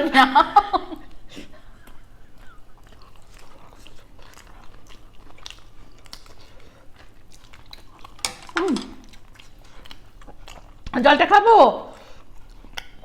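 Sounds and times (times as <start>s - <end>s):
people chewing crunchy food: 0.8s - 13.0s.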